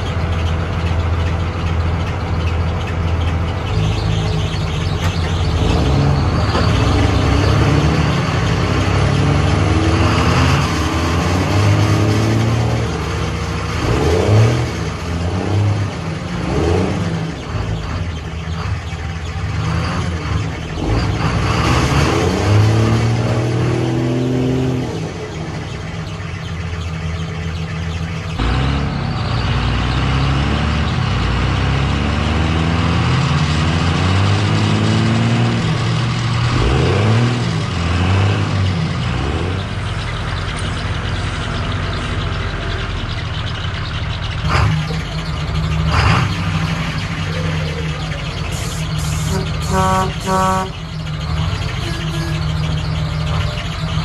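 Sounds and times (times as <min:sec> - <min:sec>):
heavy truck engines revving: 0:00.0 - 0:54.0.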